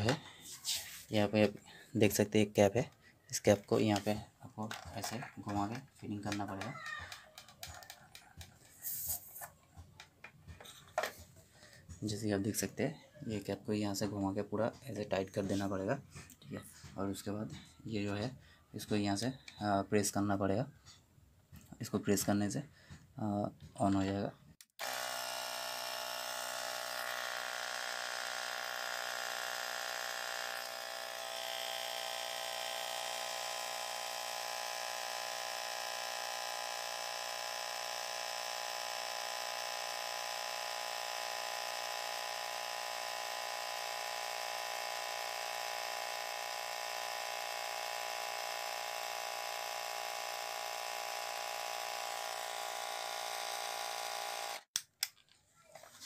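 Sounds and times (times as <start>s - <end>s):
air compressor humming: 0.0s - 20.2s, 24.8s - 54.7s.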